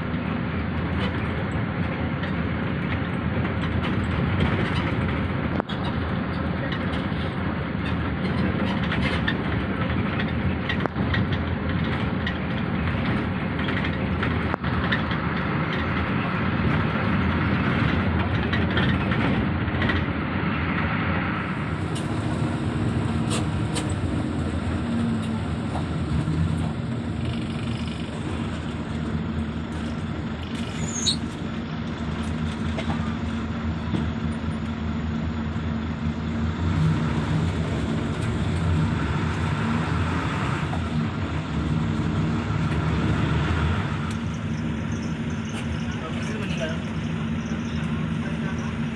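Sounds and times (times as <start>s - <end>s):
bus engine hum: 0.0s - 48.9s
road noise: 0.0s - 48.9s.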